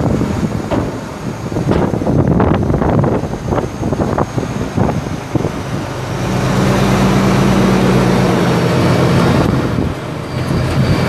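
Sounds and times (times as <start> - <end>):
diesel truck engine rumbling: 0.0 - 11.0
wind buffeting microphone: 0.0 - 11.0.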